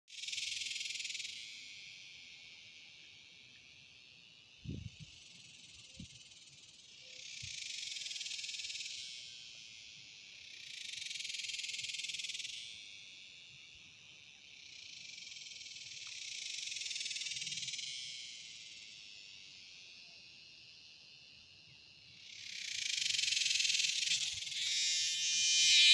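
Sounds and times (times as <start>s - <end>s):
cicadas buzzing: 0.1s - 25.9s
steady high insect drone: 0.1s - 25.9s.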